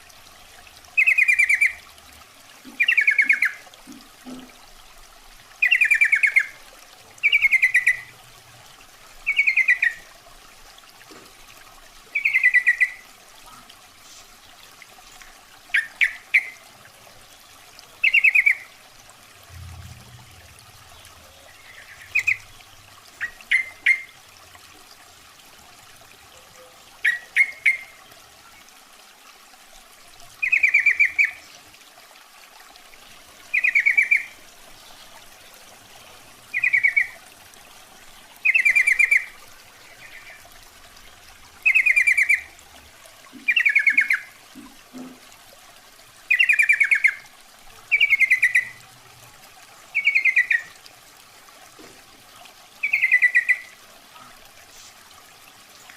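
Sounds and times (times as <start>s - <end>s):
faint steady hiss: 0.0s - 55.9s.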